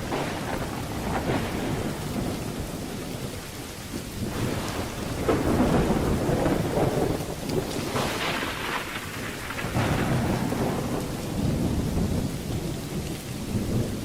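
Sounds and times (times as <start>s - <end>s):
rolling thunder: 0.0s - 14.0s
steady rain: 0.0s - 14.0s.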